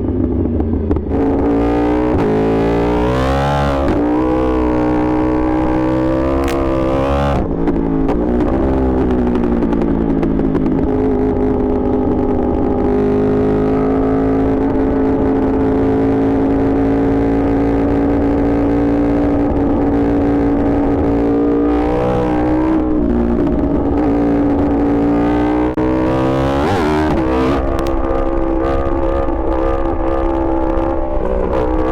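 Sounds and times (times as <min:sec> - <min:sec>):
motorcycle engine revving: 0:00.0 - 0:31.9
motorcycle engine running: 0:00.0 - 0:31.9.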